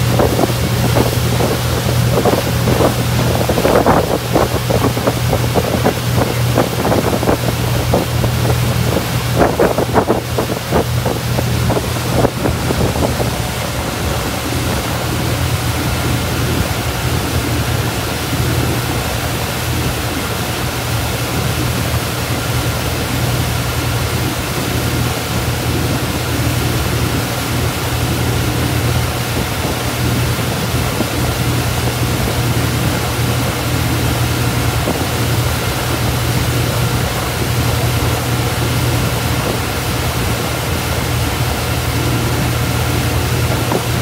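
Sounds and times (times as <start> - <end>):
motorboat engine humming: 0.0 - 44.0
water rushing from wake: 0.0 - 44.0.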